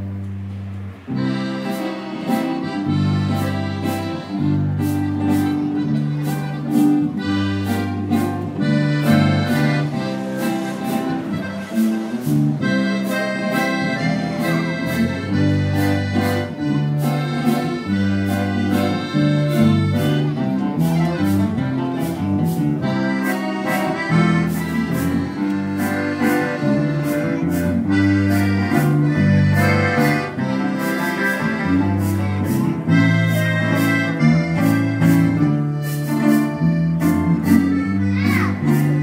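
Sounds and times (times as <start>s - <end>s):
accordion playing a waltz: 0.0s - 39.0s
bass notes: 0.0s - 39.0s
guitar accompaniment: 0.0s - 39.0s.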